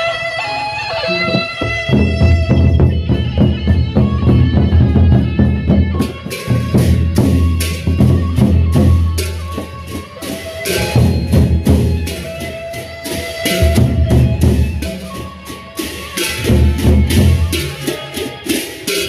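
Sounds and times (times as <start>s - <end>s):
cymbals clashing: 0.0s - 19.0s
barrel drums beating: 1.1s - 19.0s.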